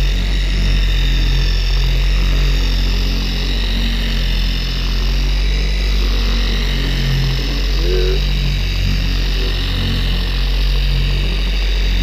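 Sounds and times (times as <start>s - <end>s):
polisher running: 0.0s - 12.0s.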